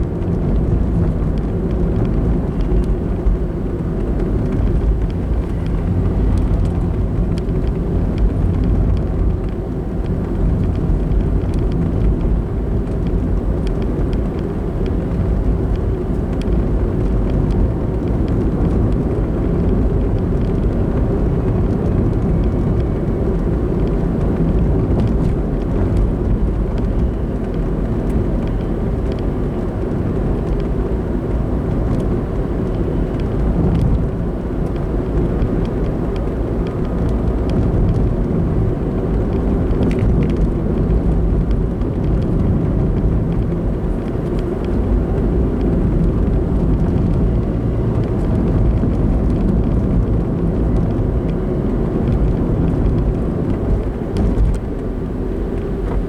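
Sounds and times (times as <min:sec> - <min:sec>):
car engine: 0:00.0 - 0:56.0
tyres rumbling on road: 0:00.0 - 0:56.0.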